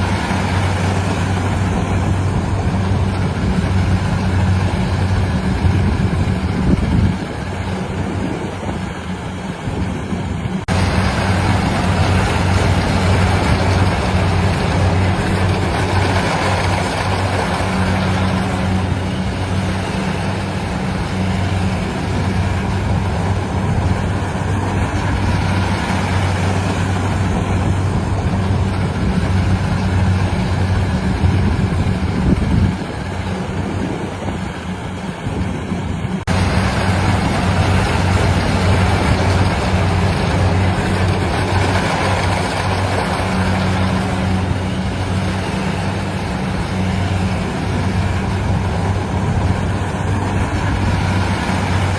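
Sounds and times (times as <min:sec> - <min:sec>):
harvester engine humming: 0:00.0 - 0:51.9.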